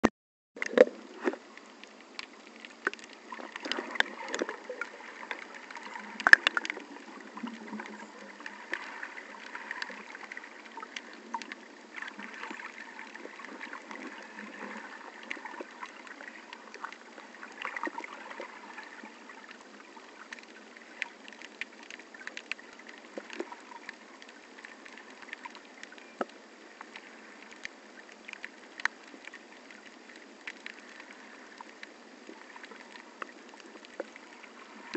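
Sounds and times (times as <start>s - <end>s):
muffled underwater water sloshing: 0.6s - 34.9s.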